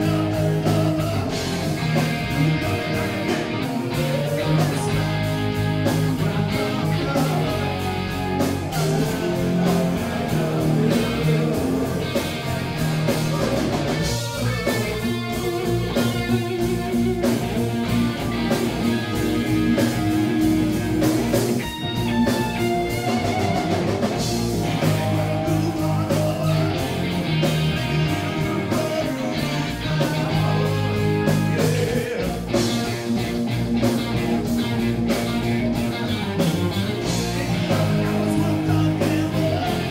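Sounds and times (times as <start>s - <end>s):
drum kit: 0.0s - 39.9s
electric bass: 0.0s - 39.9s
electric guitars: 0.0s - 39.9s.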